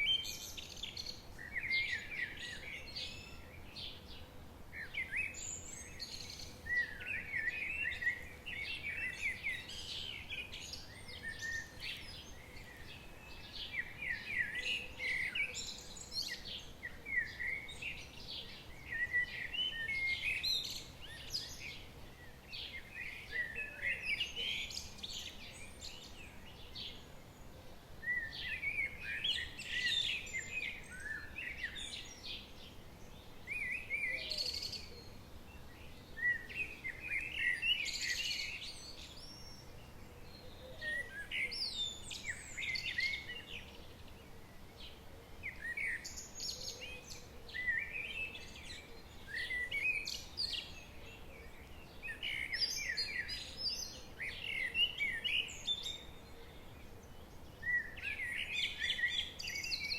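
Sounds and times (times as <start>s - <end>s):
faint steady hiss: 0.0s - 59.9s
songbirds chirping: 0.0s - 59.9s.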